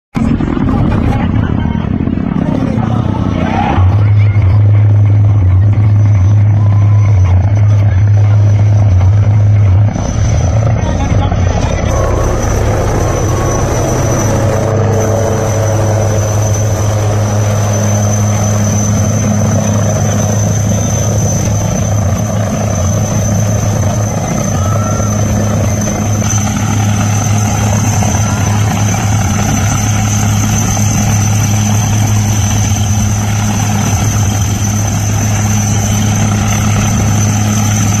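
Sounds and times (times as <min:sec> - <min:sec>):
helicopter high whine: 0:00.2 - 0:38.0
helicopter rotor beating: 0:00.2 - 0:38.0.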